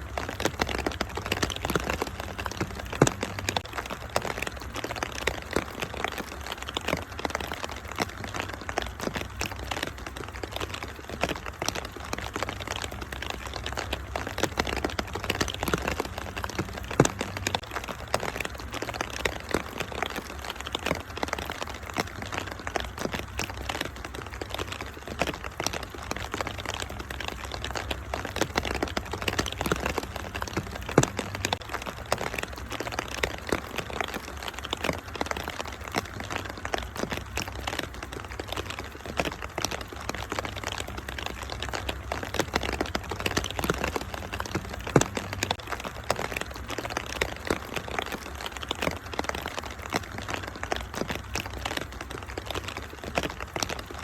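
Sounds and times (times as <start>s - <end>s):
rain hissing: 0.0s - 54.0s
wood fire crackling and popping: 0.0s - 54.0s.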